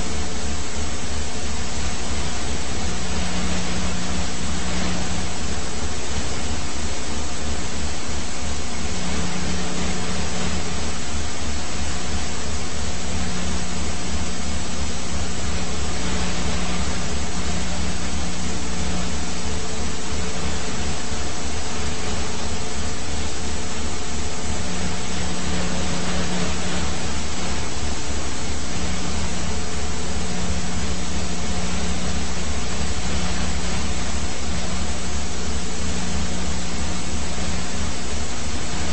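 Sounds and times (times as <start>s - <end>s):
constant hiss: 0.0s - 38.9s
helicopter engine and rotor drone: 0.0s - 38.9s.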